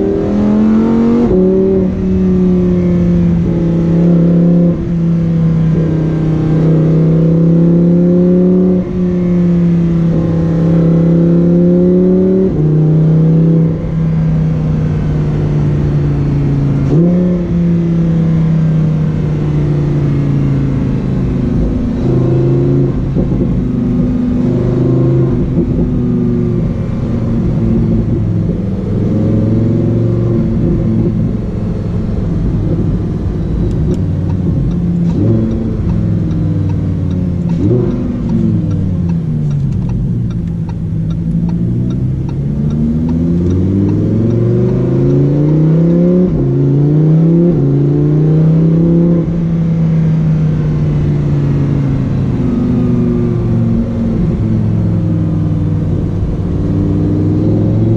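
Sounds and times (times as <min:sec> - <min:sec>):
car engine running at low revs: 0:00.0 - 0:57.9.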